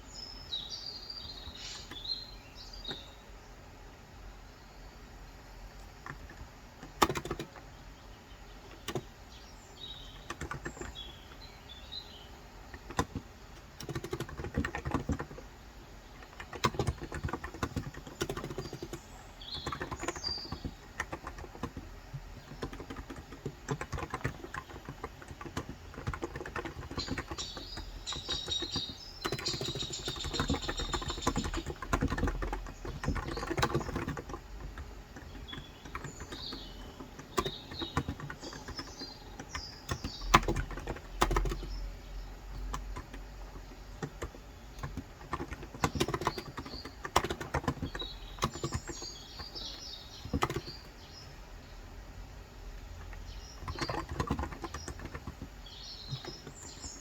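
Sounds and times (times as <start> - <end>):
birds chirping: 0.0 - 57.0
typing on a keyboard: 5.7 - 7.8, 8.6 - 11.5, 12.6 - 51.4, 52.8 - 57.0.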